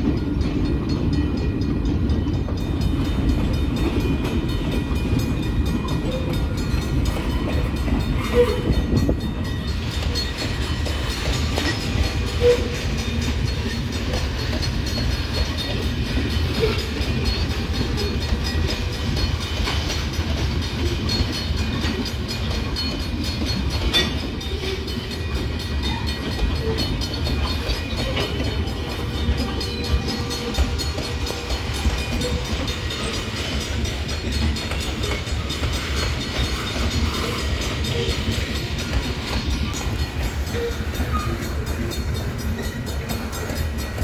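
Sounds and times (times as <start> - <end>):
train wheels clattering on rails: 0.0 - 44.0.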